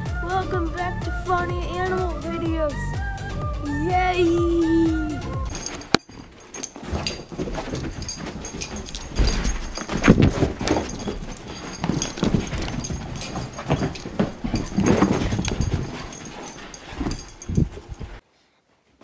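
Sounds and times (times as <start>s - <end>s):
scuffling and handling noise: 3.7s - 19.0s.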